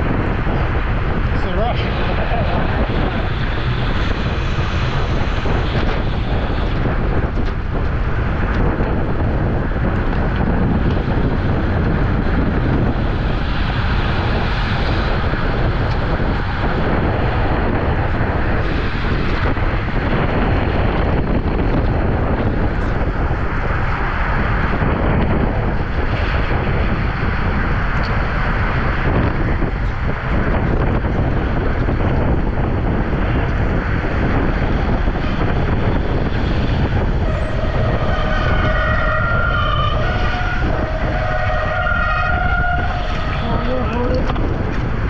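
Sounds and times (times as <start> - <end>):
loud wind buffeting microphone: 0.0 - 45.0.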